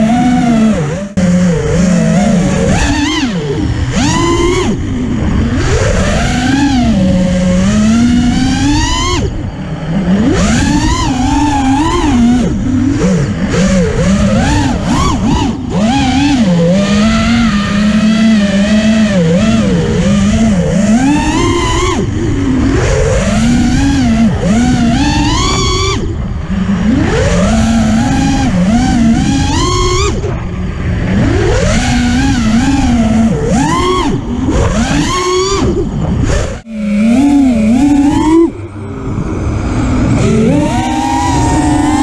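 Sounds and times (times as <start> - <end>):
quadcopter motors whining: 0.0 - 42.0.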